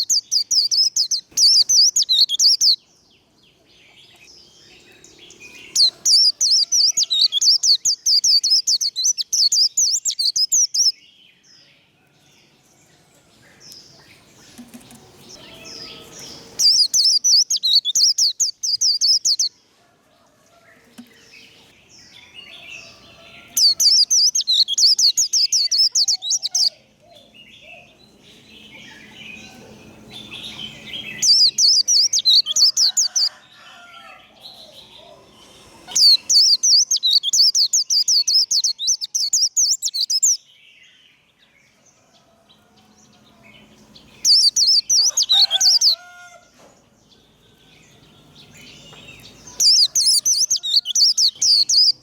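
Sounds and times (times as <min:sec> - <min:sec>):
bird high-pitched twittering song: 0:00.0 - 0:12.0, 0:13.4 - 0:19.6, 0:20.9 - 0:41.8, 0:43.1 - 0:46.3, 0:47.0 - 0:52.0.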